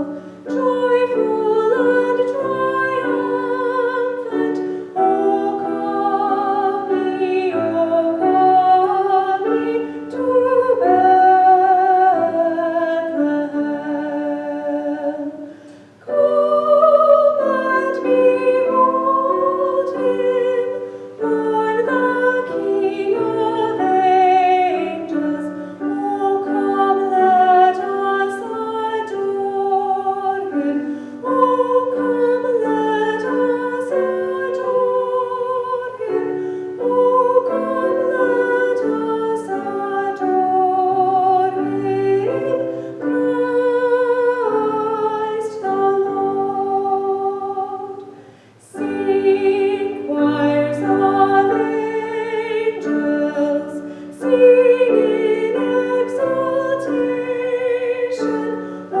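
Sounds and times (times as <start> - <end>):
piano accompaniment: 0.0 - 59.0
woman singing a hymn: 0.0 - 59.0.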